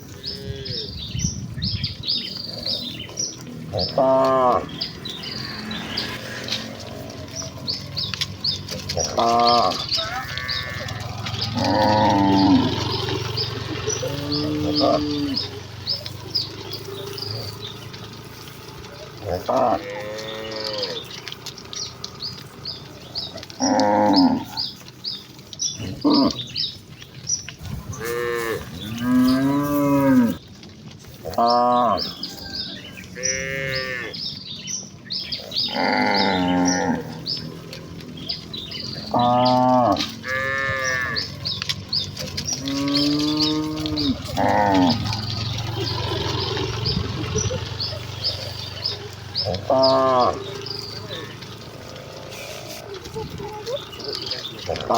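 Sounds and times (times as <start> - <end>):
cattle mooing: 0.0 - 1.2, 2.3 - 24.8, 25.8 - 26.7, 27.6 - 30.4, 31.2 - 34.4, 35.3 - 54.9.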